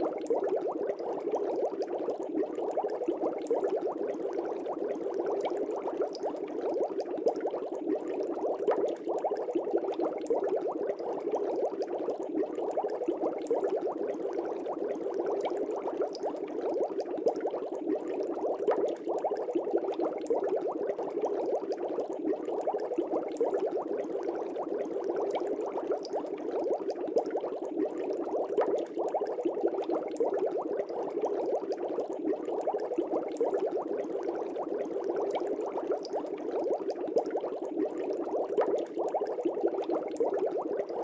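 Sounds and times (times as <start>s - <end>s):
air bubbling in aquarium water: 0.0s - 41.0s.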